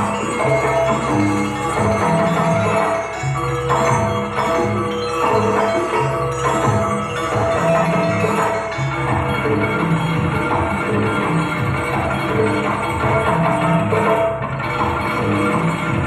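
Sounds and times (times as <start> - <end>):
dance music with percussion: 0.0 - 16.0
low bass notes: 0.0 - 16.0.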